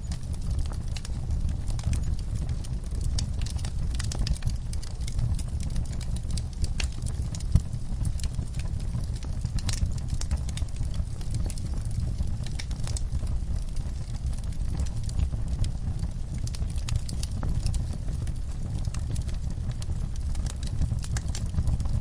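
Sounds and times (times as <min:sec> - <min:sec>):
fireplace crackling and popping: 0:00.0 - 0:22.0.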